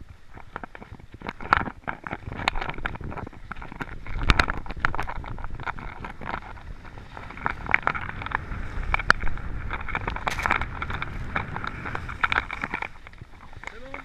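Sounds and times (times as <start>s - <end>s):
skis scraping on hard snow: 0.0s - 14.0s
wind rushing over microphone: 0.0s - 14.0s.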